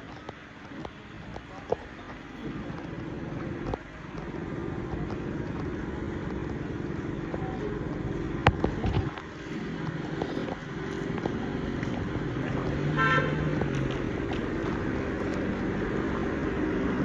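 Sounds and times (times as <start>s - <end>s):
vehicle engine running: 0.6s - 17.0s.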